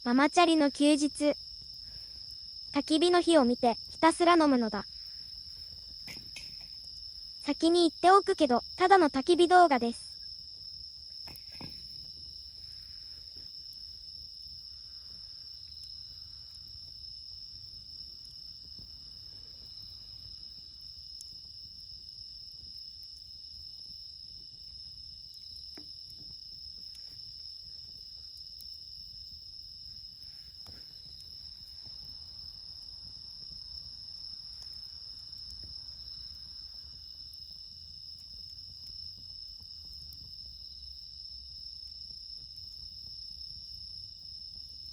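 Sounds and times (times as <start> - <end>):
crickets chirping: 0.0 - 44.9
wood fire crackling: 0.1 - 44.9.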